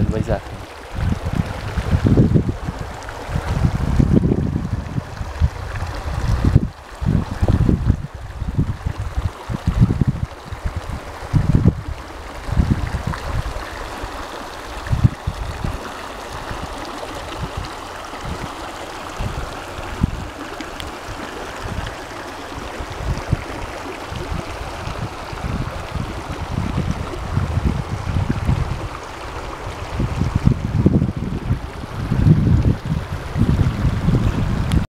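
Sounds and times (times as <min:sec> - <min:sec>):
stream rushing over stones: 0:00.0 - 0:34.9
wind buffeting microphone: 0:00.0 - 0:34.9.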